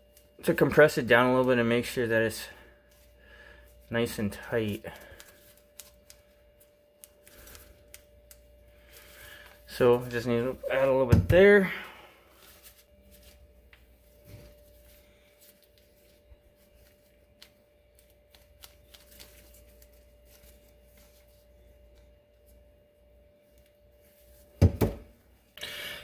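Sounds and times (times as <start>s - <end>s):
gloved hands rustling: 0.0s - 24.6s
faint steady hum: 0.0s - 26.0s.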